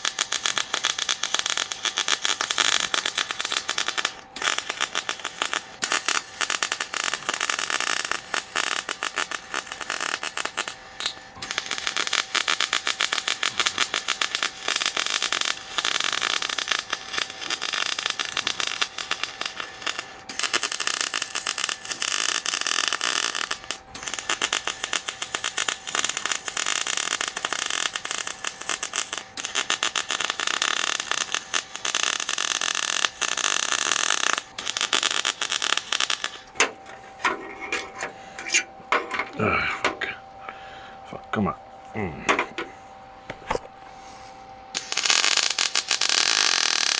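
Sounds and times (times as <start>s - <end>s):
arc welder crackling and sizzling: 0.0s - 40.4s, 41.8s - 46.9s.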